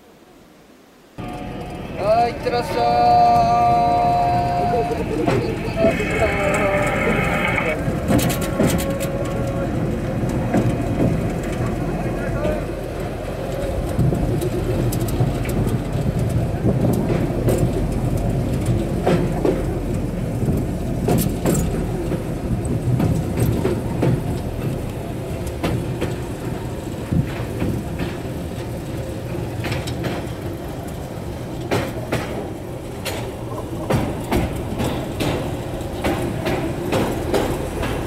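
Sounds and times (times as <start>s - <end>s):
rail cart engine and rolling rumble: 0.0s - 38.0s
wheels clicking over rail: 1.2s - 38.0s.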